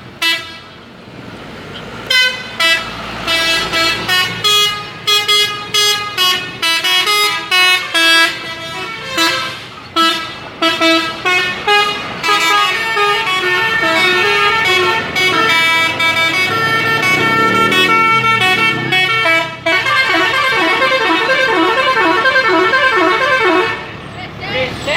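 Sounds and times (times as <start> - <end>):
multi-tone musical air horn: 0.2 - 0.6, 2.1 - 24.0.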